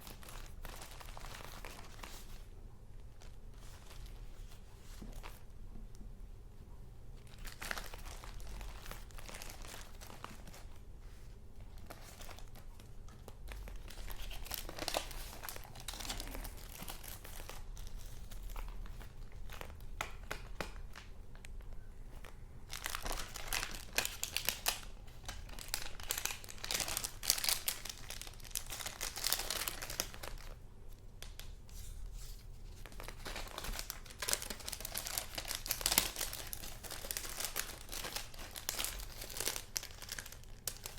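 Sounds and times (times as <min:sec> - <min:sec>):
paper rustling and crinkling: 0:00.0 - 0:02.5, 0:07.3 - 0:21.2, 0:22.1 - 0:30.6, 0:31.2 - 0:40.9.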